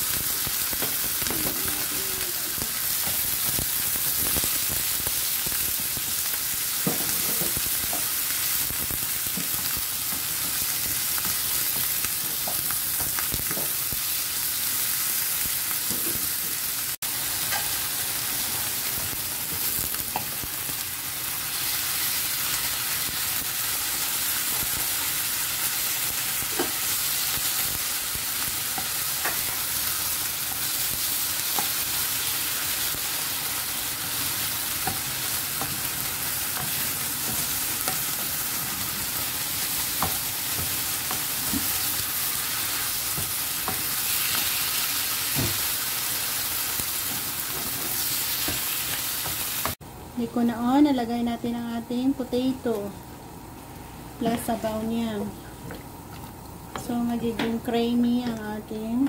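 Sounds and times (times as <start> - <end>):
meat sizzling in a frying pan: 0.0 - 49.8.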